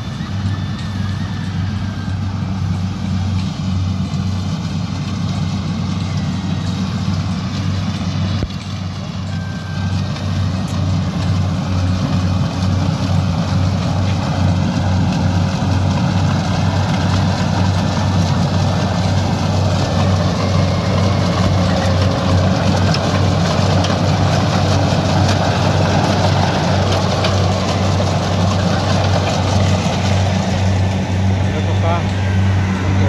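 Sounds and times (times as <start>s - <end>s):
combine harvester diesel engine humming: 0.0s - 33.0s.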